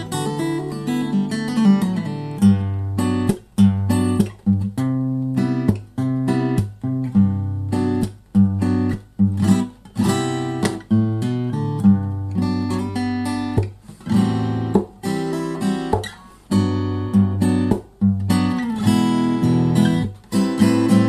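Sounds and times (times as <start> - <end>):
jazz acoustic guitar: 0.0 - 21.0.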